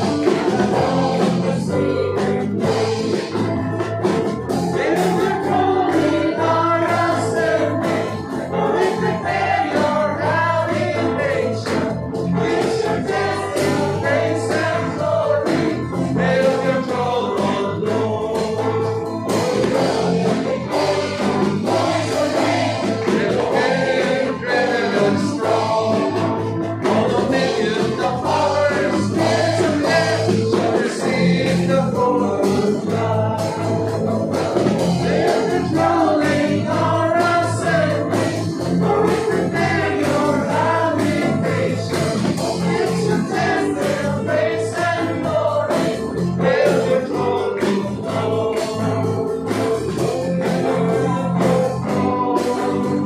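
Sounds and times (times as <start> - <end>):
acoustic guitar: 0.0 - 53.0
electric guitar: 0.0 - 53.0
keyboard: 0.0 - 53.0.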